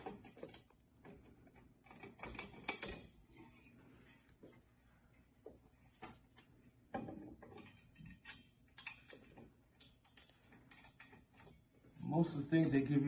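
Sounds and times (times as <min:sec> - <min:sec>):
metal chair tubes clicking: 0:00.0 - 0:03.5, 0:05.9 - 0:13.0.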